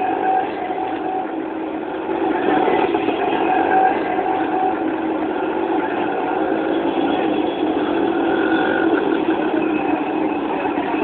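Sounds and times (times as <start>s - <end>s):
slow road traffic: 0.0s - 11.0s.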